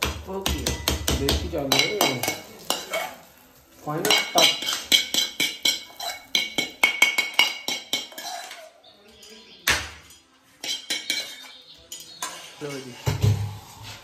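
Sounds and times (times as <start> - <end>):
metal tongs clinking on pan: 0.4 - 9.4, 10.0 - 12.9.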